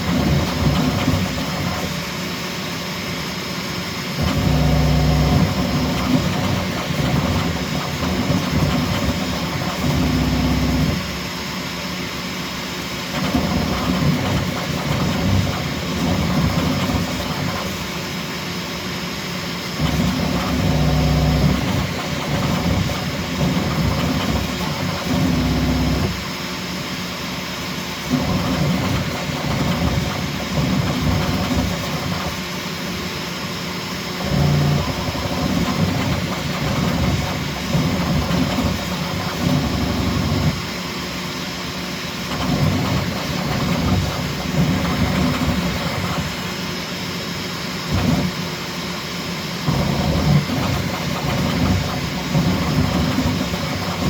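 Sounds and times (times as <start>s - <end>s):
printer motors humming: 0.0s - 2.3s, 4.2s - 18.8s, 19.5s - 26.5s, 28.0s - 33.1s, 34.1s - 49.0s, 49.6s - 54.0s.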